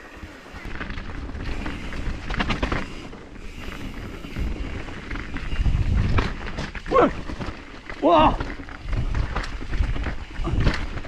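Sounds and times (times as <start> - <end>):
bike frame rattling: 0.0 - 11.0
bike tyre noise: 0.0 - 11.0
wind buffeting microphone: 0.0 - 11.0.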